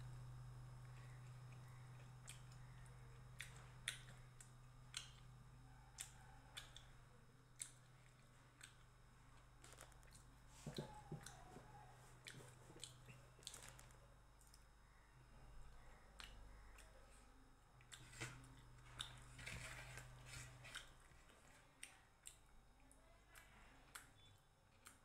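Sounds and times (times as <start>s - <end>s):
low steady hum: 0.0s - 25.0s
person chewing with wet smacks: 0.4s - 14.7s, 15.6s - 25.0s.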